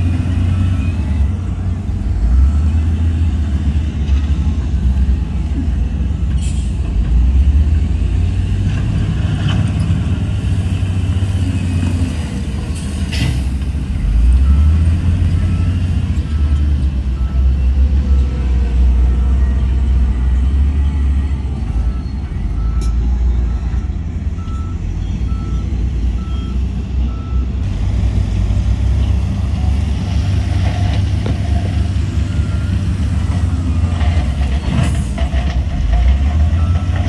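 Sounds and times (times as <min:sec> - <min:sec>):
heavy diesel engines rumbling: 0:00.0 - 0:37.0.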